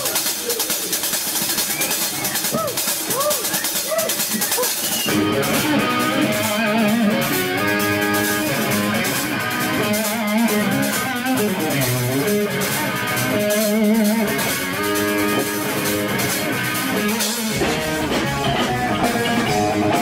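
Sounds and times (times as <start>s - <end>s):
electric guitar with vibrato: 0.0s - 20.0s
hard rock band playing live: 0.0s - 20.0s.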